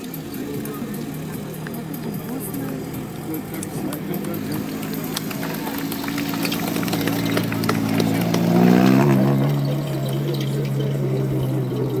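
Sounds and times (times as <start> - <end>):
rally car engine running hard: 0.0 - 12.0.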